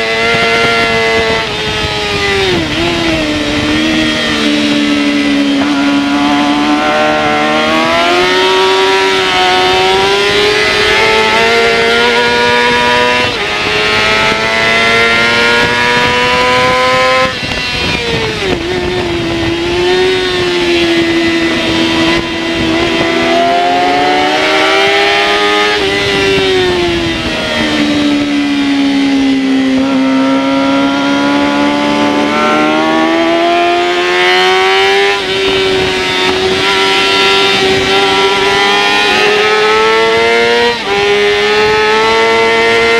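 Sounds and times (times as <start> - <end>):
motorcycle engine revving: 0.0 - 42.9
wind noise rushing: 0.0 - 42.9.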